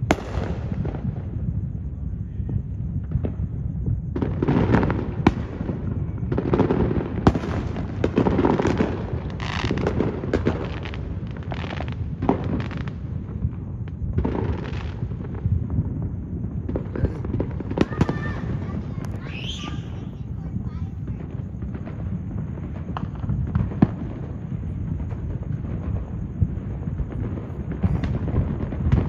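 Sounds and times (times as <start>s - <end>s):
fireworks booming and crackling: 0.0s - 29.0s.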